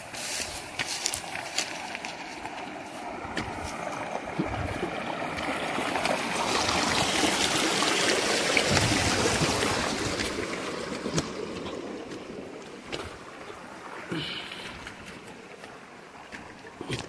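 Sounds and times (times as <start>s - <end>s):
stream trickling over rocks: 0.0s - 17.0s.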